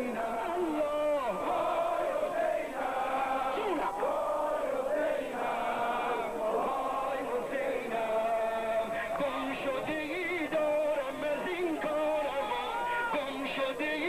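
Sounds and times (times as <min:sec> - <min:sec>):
male voices chanting: 0:00.0 - 0:14.0.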